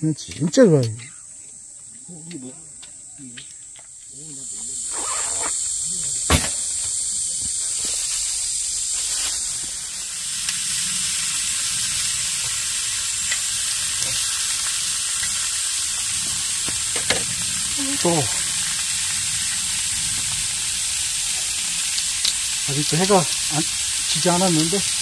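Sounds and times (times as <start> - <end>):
meat sizzling on a grill pan: 1.6 - 25.0.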